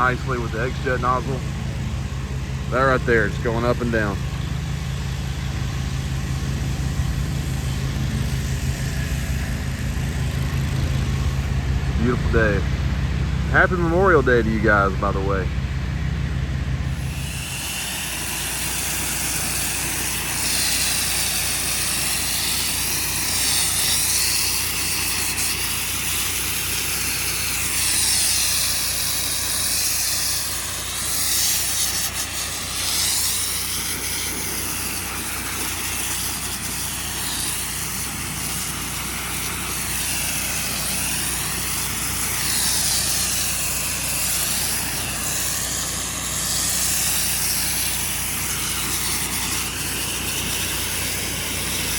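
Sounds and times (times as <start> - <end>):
pressure washer hum: 0.0 - 51.9
high-pressure water spray hissing: 2.6 - 11.5, 16.9 - 51.9.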